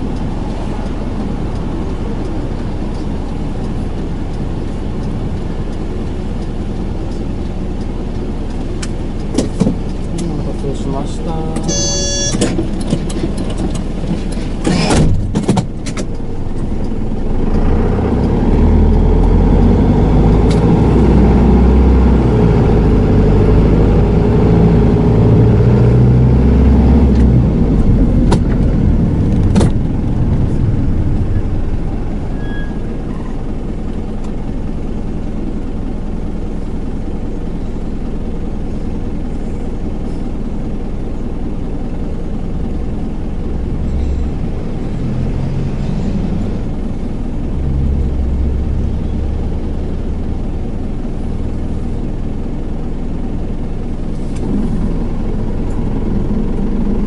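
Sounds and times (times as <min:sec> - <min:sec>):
diesel engine accelerating: 0:00.0 - 0:57.0.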